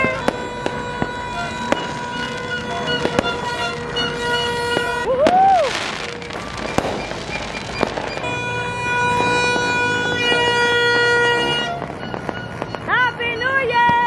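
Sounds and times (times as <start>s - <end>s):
horn toots: 0.0s - 5.1s, 6.1s - 13.0s
firework whistle: 0.0s - 14.0s
fireworks bangs and crackling: 0.0s - 14.0s.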